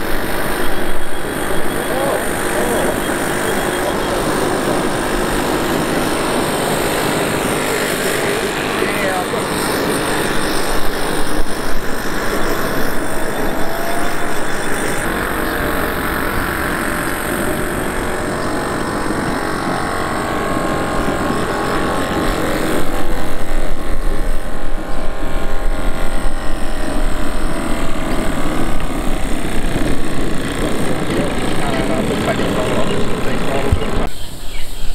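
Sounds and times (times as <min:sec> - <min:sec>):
steam boat engine hissing: 0:00.0 - 0:34.9.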